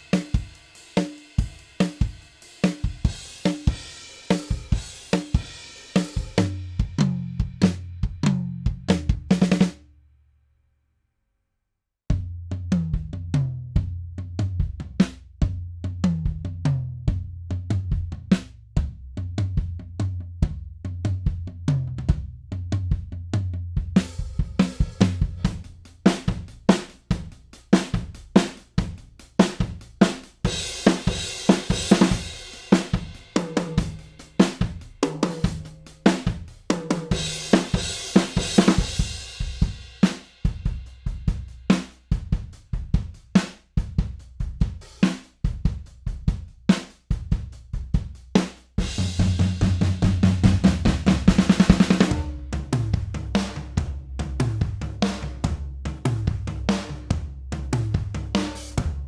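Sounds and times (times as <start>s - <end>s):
drum kit groove: 0.0s - 9.8s, 12.1s - 59.0s.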